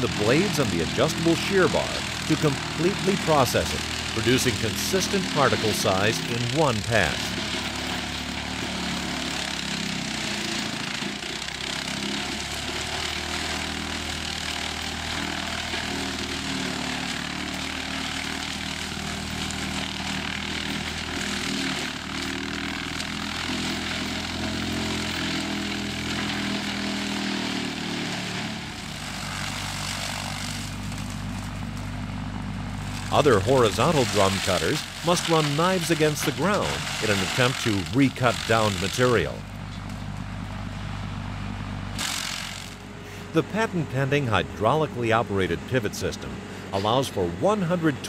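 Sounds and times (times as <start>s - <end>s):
mulcher shredding brush: 0.0s - 48.0s
tractor engine hum: 0.0s - 48.0s.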